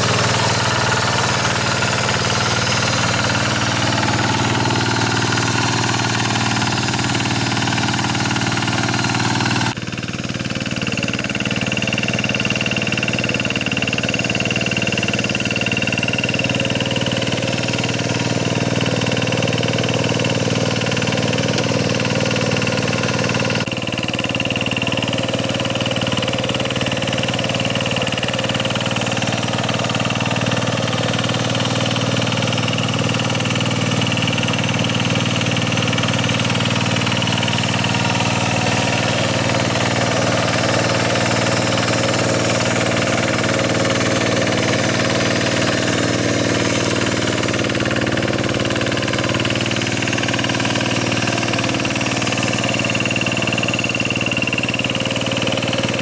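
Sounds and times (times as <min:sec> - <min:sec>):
diesel tractor engine under load: 0:00.0 - 0:56.0.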